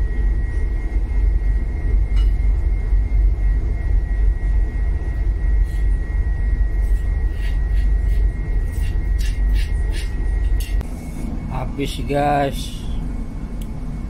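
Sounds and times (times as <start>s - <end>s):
high whine: 0.0s - 14.0s.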